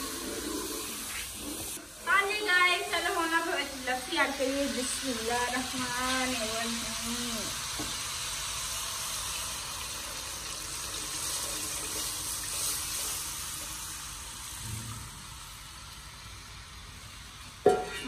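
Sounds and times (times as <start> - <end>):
liquid pouring hiss: 0.0 - 17.9
masala sizzling: 0.0 - 18.0.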